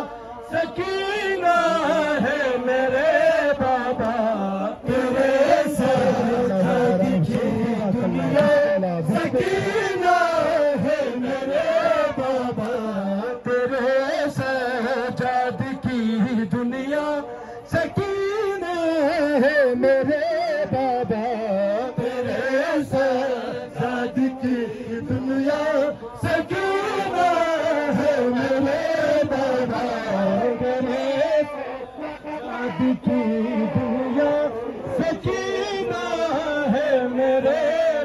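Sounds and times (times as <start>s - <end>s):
crowd chanting: 0.0s - 38.0s
man singing lament through microphone: 0.0s - 38.0s.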